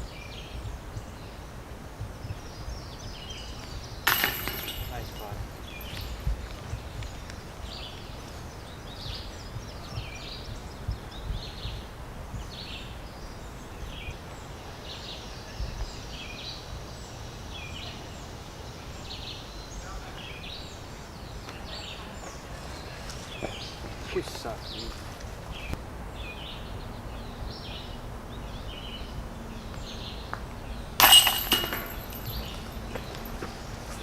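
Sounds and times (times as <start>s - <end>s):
wind rumble on microphone: 0.0s - 4.1s, 4.7s - 31.0s
birds chirping: 0.0s - 34.0s.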